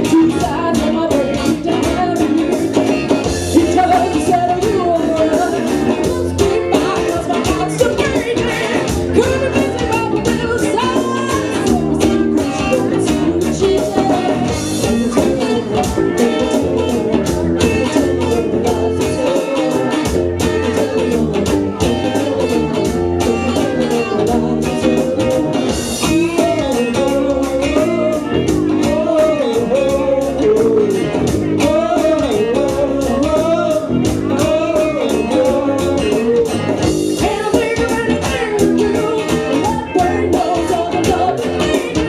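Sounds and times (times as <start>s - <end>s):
drum beat: 0.0s - 42.0s
electric guitar: 0.0s - 42.0s
person singing: 0.0s - 42.0s.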